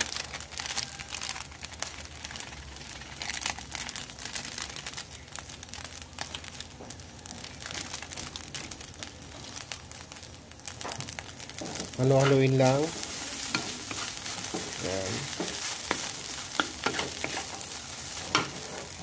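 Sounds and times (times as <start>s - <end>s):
rice sizzling in a wok: 0.0s - 19.0s.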